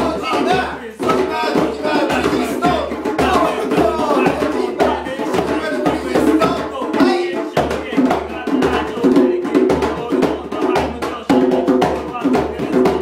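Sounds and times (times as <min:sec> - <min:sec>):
man rapping: 0:00.0 - 0:13.0
repeating kick-drum beat: 0:00.0 - 0:13.0.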